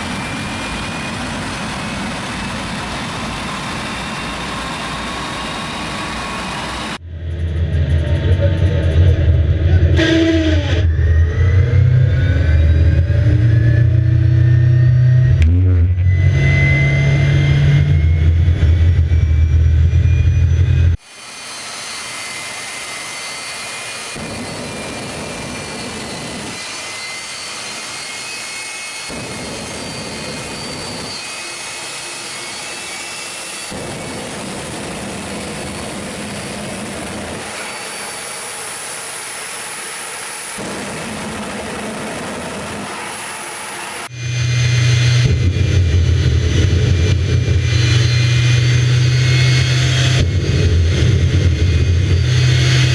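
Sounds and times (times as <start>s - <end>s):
loud low hum: 0.0s - 28.1s, 29.0s - 52.9s
jet turbine rushing and whining: 0.0s - 52.9s.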